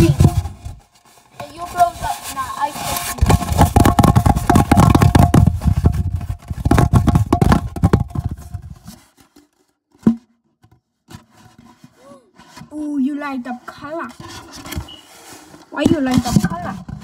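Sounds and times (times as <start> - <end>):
handling noise on microphone: 0.0 - 10.3, 13.5 - 17.0.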